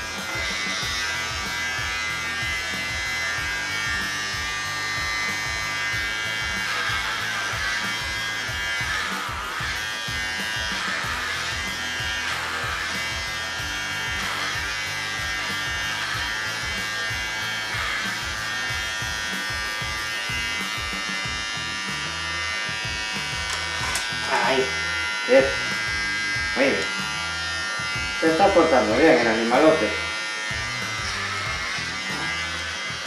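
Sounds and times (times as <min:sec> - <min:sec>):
background music: 0:00.0 - 0:33.0
electric clippers buzzing: 0:00.0 - 0:33.0.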